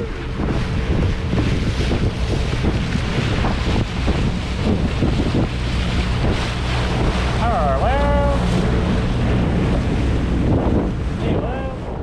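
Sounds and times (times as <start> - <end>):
boat motor running: 0.0 - 12.0
water rushing past hull: 0.0 - 12.0
wind buffeting microphone: 0.0 - 12.0.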